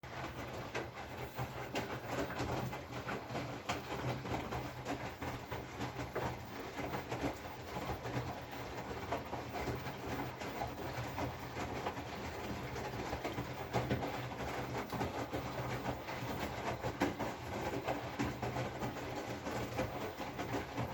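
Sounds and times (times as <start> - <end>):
washing machine motor hum: 0.0 - 20.9.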